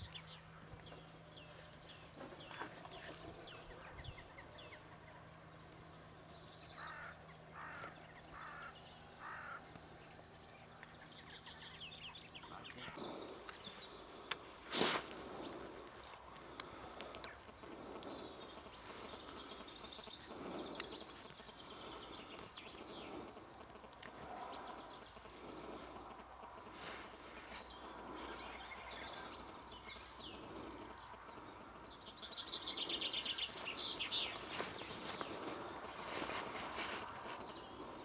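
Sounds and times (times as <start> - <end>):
birds chirping: 0.0 - 38.0
steady outdoor noise: 0.0 - 38.0.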